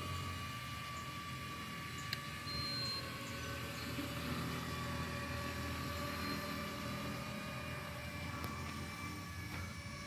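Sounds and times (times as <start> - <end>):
quadcopter propellers whining: 0.0 - 10.0.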